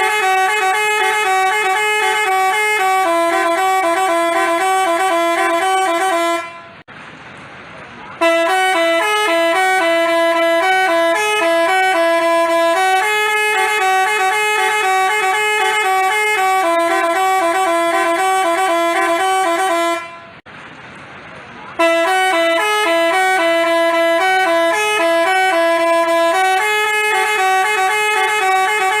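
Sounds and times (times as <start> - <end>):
musical bus horn melody: 0.0 - 6.9, 8.2 - 20.4, 21.8 - 29.0.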